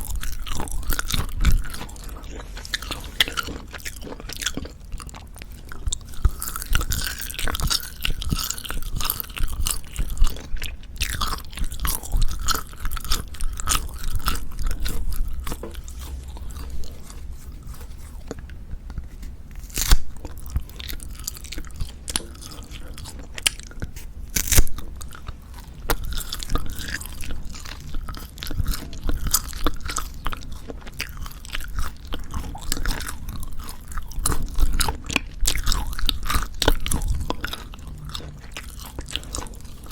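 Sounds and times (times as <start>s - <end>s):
chewing dried meat: 0.0s - 39.9s.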